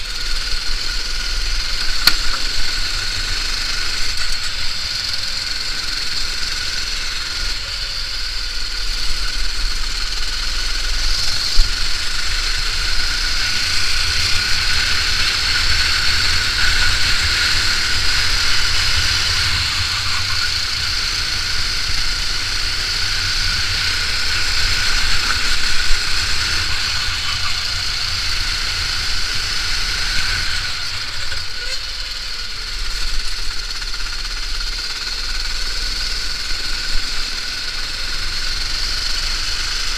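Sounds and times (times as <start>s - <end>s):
kart engine drone: 0.0s - 39.9s.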